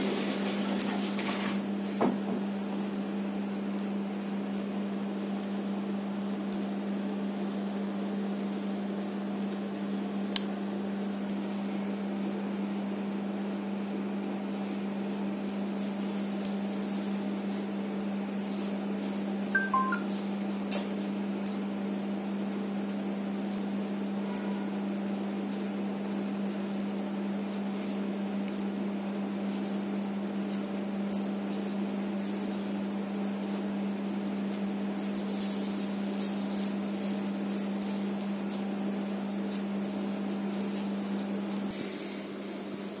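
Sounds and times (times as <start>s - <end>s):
room machinery hum: 0.0s - 43.0s.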